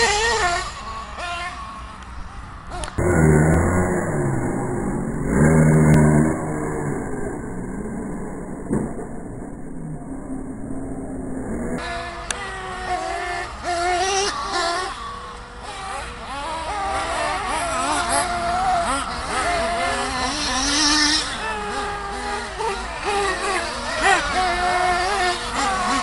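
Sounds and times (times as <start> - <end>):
small engine revving: 0.0 - 26.0.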